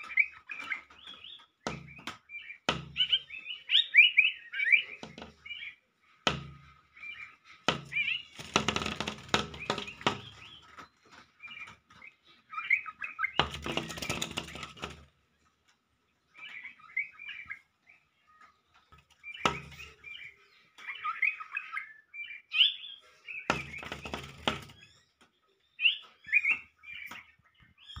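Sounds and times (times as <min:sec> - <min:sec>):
small birds twittering: 0:00.0 - 0:28.0.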